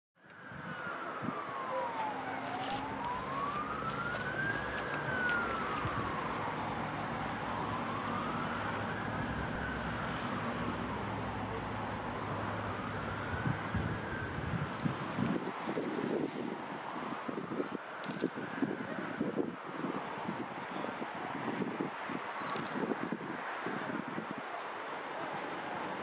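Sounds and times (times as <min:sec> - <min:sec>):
emergency siren wailing: 0:00.2 - 0:24.6.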